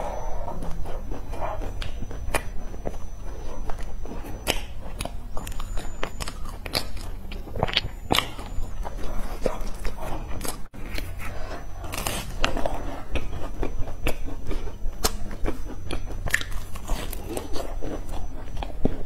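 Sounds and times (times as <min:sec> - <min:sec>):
chewing crunchy pastry: 0:00.0 - 0:19.0.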